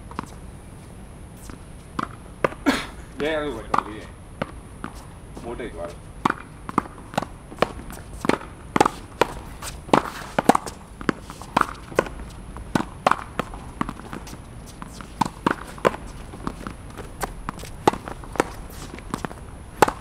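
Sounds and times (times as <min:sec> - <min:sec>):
tennis ball hitting racket and wall: 0:01.4 - 0:20.0.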